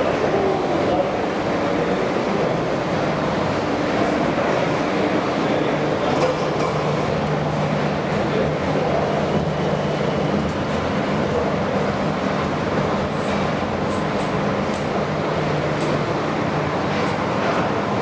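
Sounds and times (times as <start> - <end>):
elevator running rumble: 0.0 - 18.0.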